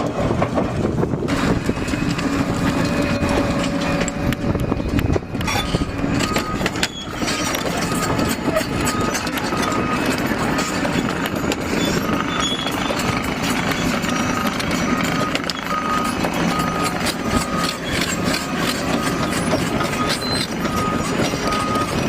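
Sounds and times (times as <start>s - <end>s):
excavator clatter: 0.0s - 22.0s
excavator diesel engine: 0.0s - 22.0s.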